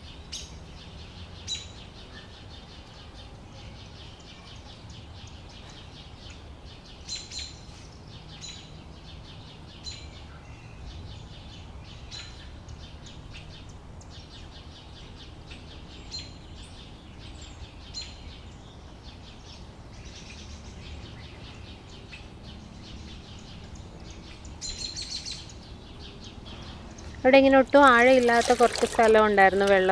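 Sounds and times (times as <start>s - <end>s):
birds chirping: 0.0s - 29.9s
low background noise: 0.0s - 29.9s.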